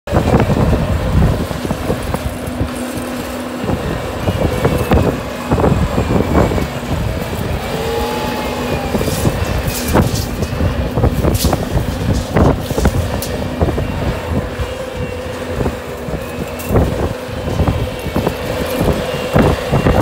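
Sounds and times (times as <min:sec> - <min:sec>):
bucket and tracks clanking: 0:00.1 - 0:20.0
diesel engine running under load: 0:00.1 - 0:20.0.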